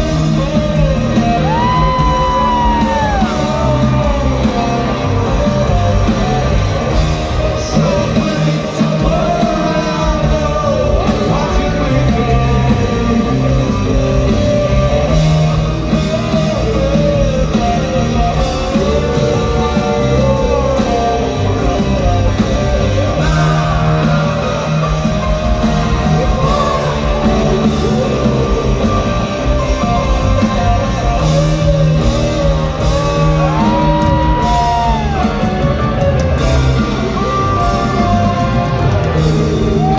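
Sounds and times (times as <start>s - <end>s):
live rock band with singing: 0.0s - 39.9s.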